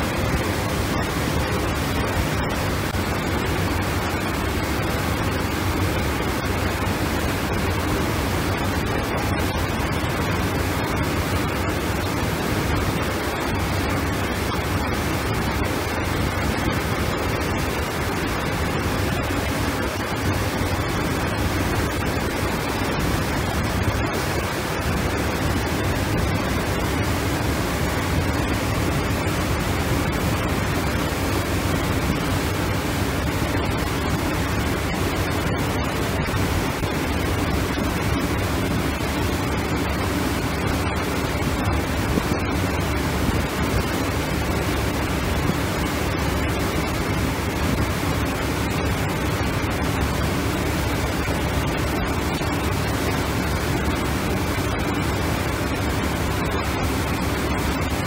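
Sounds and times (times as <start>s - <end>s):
wind and water rushing: 0.0s - 58.0s.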